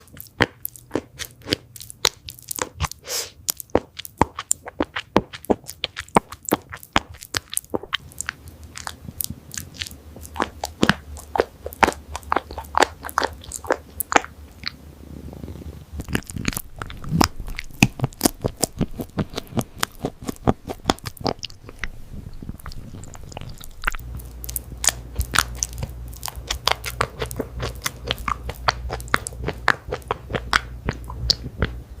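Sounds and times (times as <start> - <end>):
cat chewing and crunching: 0.0 - 32.0
low steady hum: 0.0 - 32.0.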